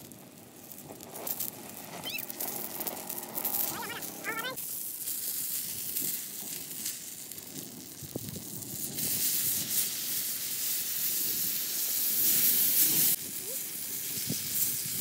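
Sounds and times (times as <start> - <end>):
food sizzling on hot stone: 0.0 - 15.0.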